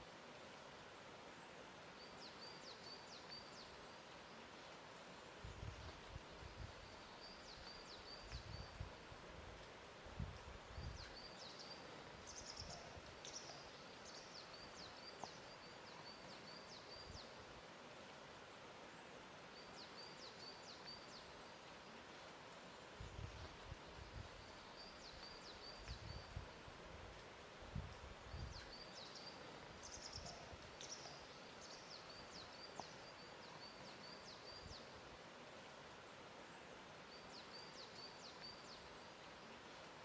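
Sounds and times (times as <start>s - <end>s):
soft steady hiss: 0.0s - 40.0s.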